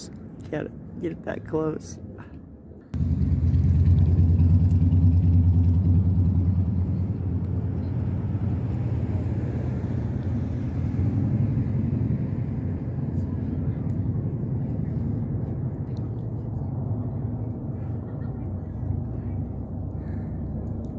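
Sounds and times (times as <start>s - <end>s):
vehicle engine rumble: 2.0s - 20.9s.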